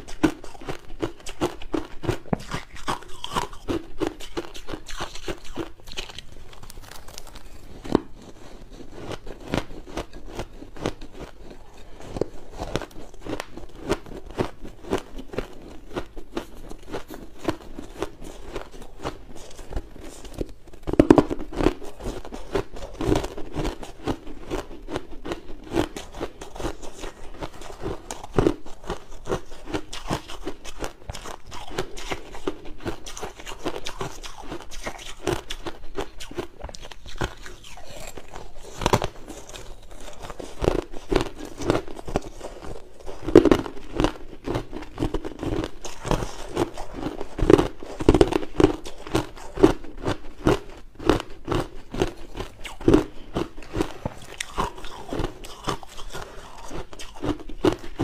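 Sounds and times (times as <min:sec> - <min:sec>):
chewing crushed ice: 0:00.0 - 0:58.0.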